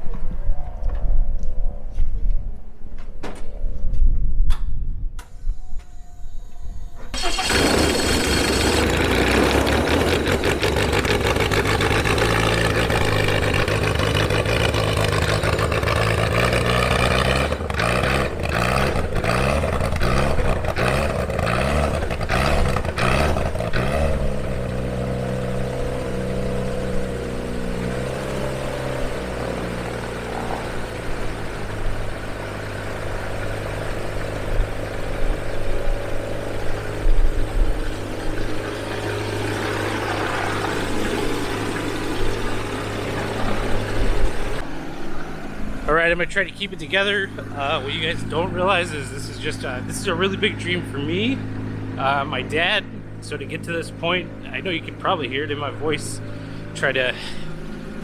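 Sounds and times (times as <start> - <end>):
aircraft engine running: 5.3 - 58.0.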